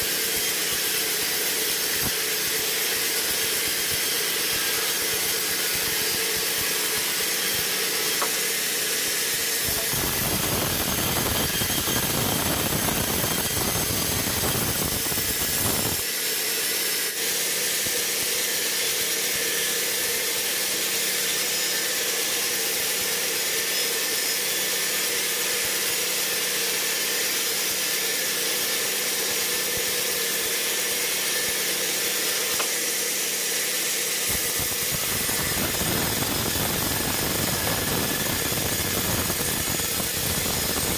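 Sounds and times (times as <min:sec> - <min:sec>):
sawmill machinery hissing: 0:00.0 - 0:40.9.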